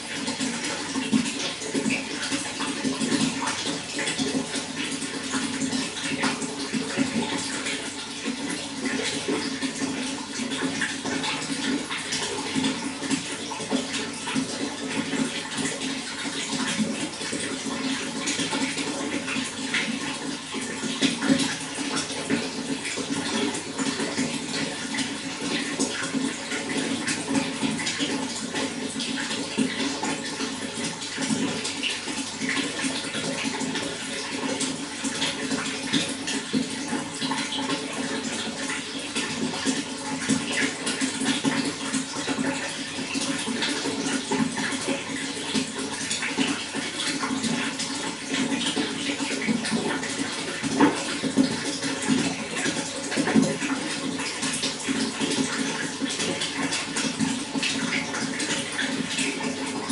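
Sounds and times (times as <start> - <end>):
running water bubbling: 0.0 - 59.9.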